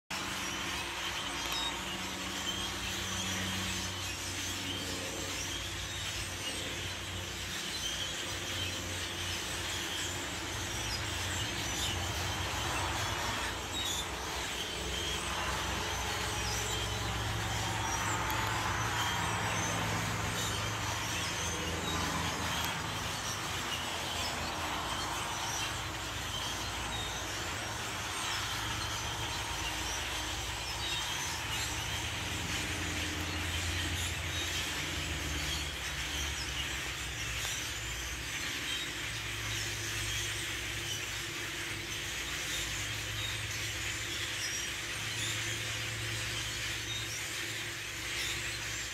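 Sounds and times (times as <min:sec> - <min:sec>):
flock of birds chirping: 0:00.1 - 0:48.9.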